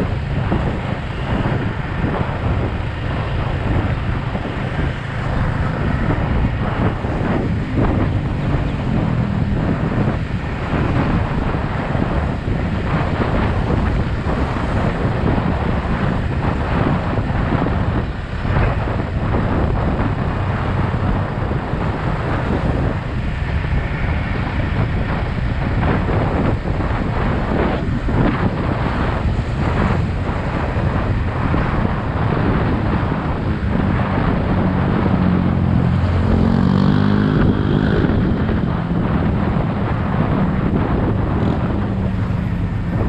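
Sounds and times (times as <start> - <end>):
motorcycle engine running: 0.0 - 43.0
wind buffeting microphone: 0.0 - 43.0.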